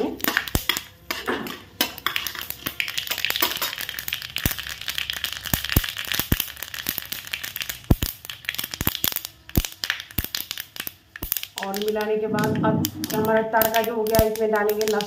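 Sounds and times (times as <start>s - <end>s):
seeds crackling and popping in hot oil: 0.0s - 15.0s.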